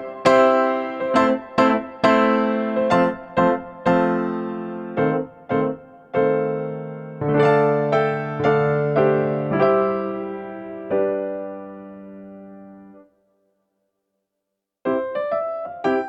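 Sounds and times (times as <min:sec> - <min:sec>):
electric piano chords: 0:00.0 - 0:13.1, 0:14.9 - 0:16.0.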